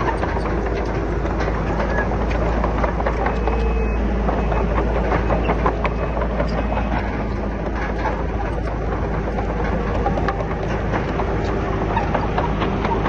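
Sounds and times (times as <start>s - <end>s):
bulldozer diesel engine running: 0.0s - 13.0s
steel track links clattering: 0.0s - 13.0s.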